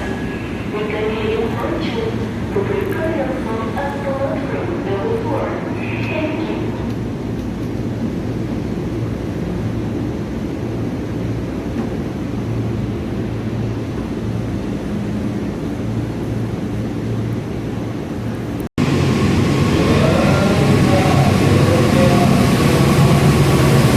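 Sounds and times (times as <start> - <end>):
diesel train passing: 0.0 - 23.9.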